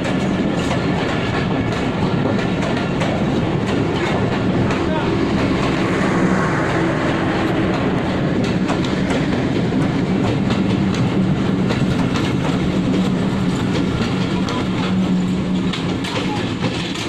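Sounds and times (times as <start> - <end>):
train rumble and hum: 0.0 - 17.0
train wheels clicking on rail joints: 0.0 - 17.0.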